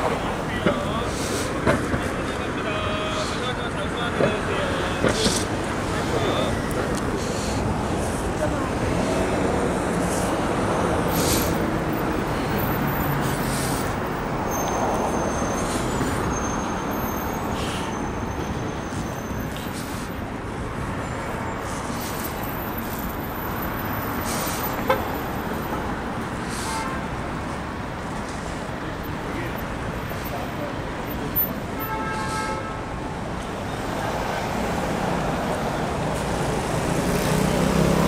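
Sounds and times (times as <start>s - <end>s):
traffic passing: 0.0s - 38.0s.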